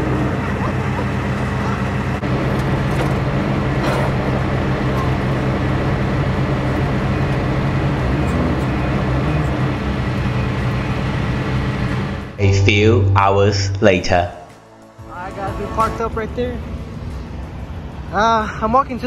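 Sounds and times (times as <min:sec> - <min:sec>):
truck diesel engine idling: 0:00.0 - 0:12.4, 0:13.8 - 0:18.9.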